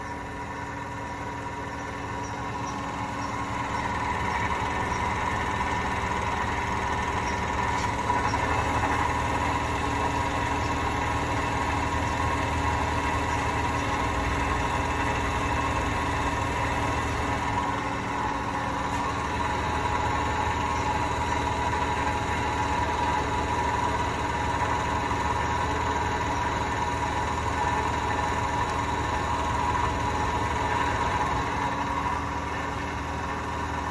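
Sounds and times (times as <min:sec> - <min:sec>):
washing machine drum spinning: 0:00.0 - 0:33.9.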